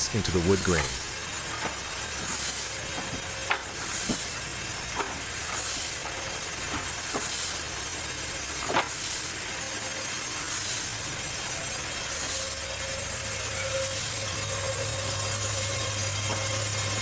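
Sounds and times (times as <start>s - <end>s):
bandsaw mill cutting log: 0.0s - 17.0s.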